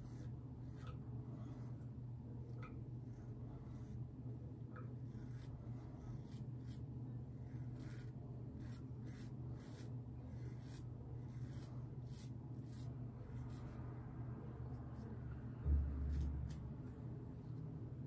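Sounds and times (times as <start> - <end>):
razor scraping stubble: 0.0 - 4.2, 4.8 - 14.0, 16.0 - 18.0
steady low hum: 0.0 - 18.0.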